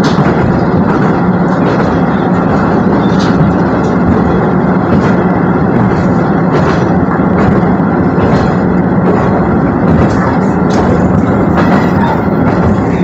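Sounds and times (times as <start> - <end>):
diesel railcar engine drone: 0.0 - 13.0
wheels rumbling on rails: 0.0 - 13.0.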